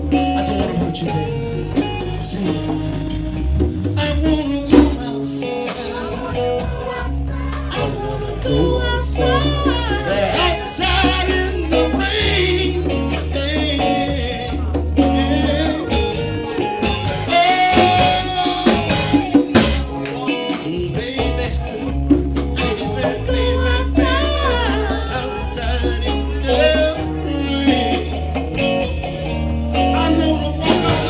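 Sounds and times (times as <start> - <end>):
drum kit: 0.0 - 31.0
electric bass guitar: 0.0 - 31.0
person singing: 0.0 - 31.0.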